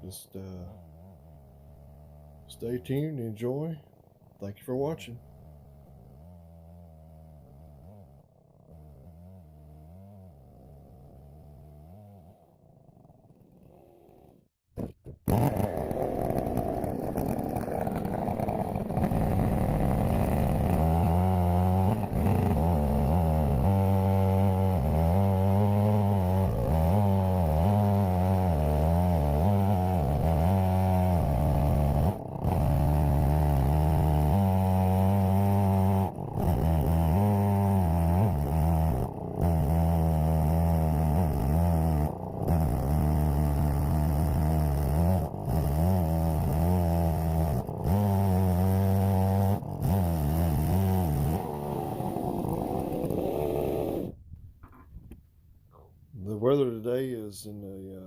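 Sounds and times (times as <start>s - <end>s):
chainsaw cutting log at high throttle: 0.4s - 3.6s, 5.2s - 54.2s.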